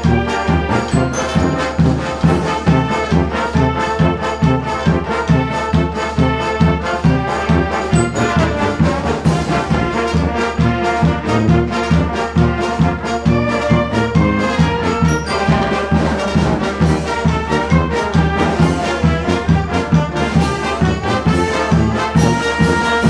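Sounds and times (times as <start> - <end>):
brass band music: 0.0 - 23.0.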